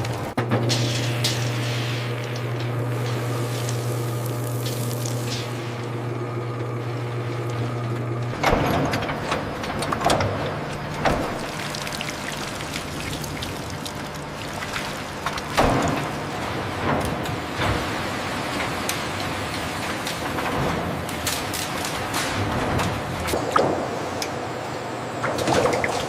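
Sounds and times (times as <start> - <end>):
factory machinery humming: 0.0 - 26.0.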